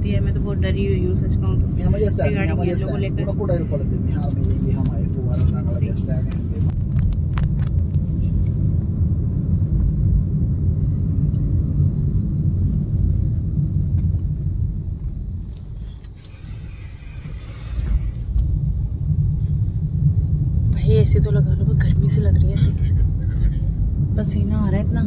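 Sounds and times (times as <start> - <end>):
road rumble inside car: 0.0 - 25.0.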